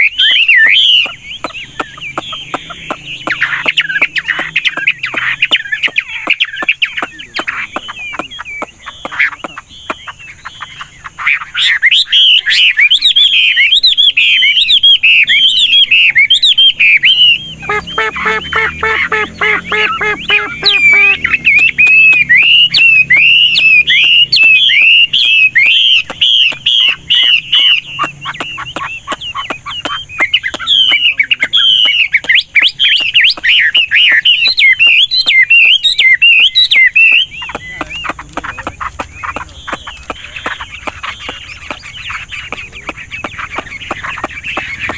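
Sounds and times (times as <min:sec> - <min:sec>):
bird singing whistled phrases: 0:00.0 - 0:44.9
low rapidly pulsing bird call: 0:00.0 - 0:44.9.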